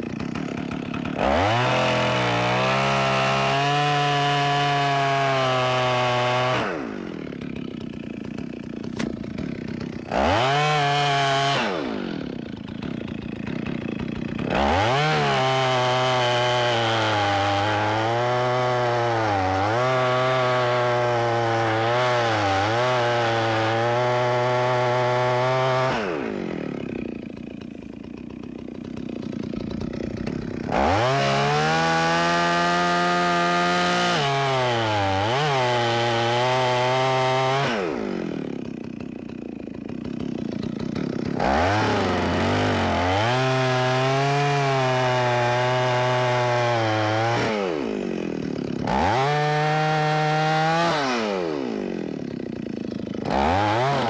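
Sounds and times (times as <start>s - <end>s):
chainsaw idling: 0.0s - 54.0s
chainsaw revving and cutting: 0.0s - 54.0s.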